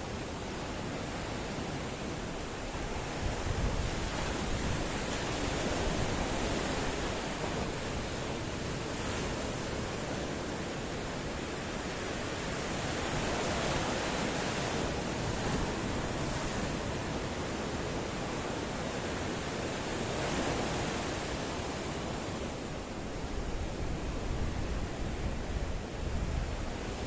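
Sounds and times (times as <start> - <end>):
ocean waves washing: 0.0 - 27.0.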